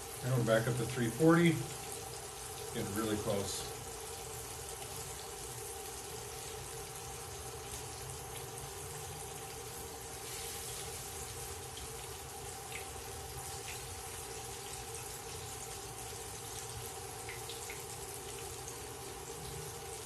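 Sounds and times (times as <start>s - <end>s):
faint steady hum: 0.0s - 20.0s
fish frying in oil: 0.0s - 20.0s.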